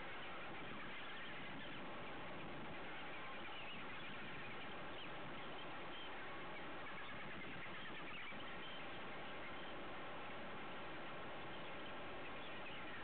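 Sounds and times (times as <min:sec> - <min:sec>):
faint high squeaks and chirps: 0:00.0 - 0:10.0, 0:11.3 - 0:13.0.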